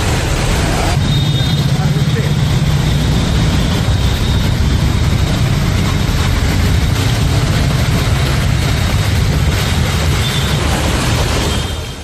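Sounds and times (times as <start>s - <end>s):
traffic on wet street: 0.0s - 12.0s.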